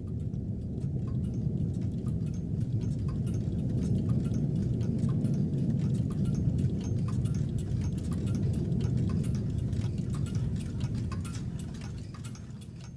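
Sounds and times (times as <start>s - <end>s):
quick repeated ticks: 0.0s - 12.9s
steady low rumble: 0.0s - 12.9s.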